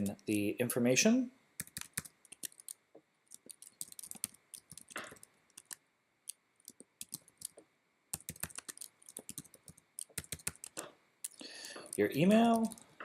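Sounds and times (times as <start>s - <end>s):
keyboard typing: 1.6s - 13.0s.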